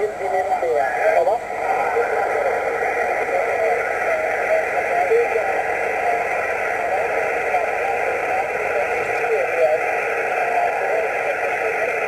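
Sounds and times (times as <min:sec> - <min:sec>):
garbled radio voice: 0:00.0 - 0:12.0
radio static hiss: 0:00.0 - 0:12.0.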